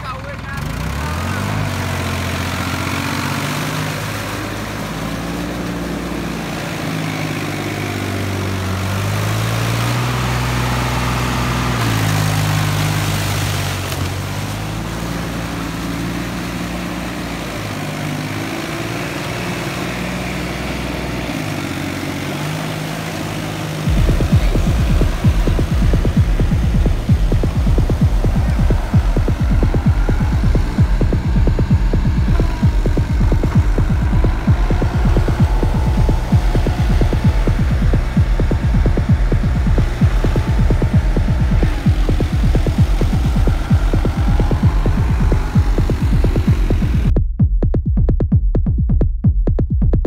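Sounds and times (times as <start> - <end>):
tractor diesel engine under load: 0.0 - 47.1.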